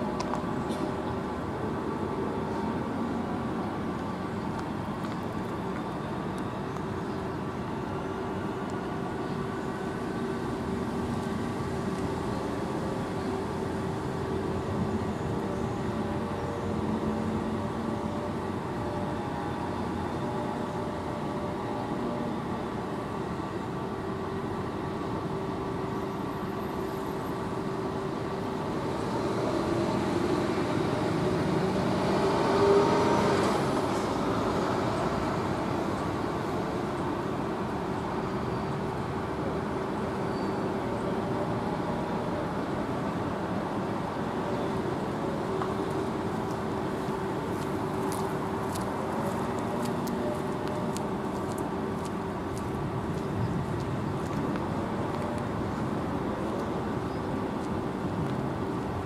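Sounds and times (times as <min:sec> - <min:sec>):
train machinery humming: 0:00.0 - 0:59.0.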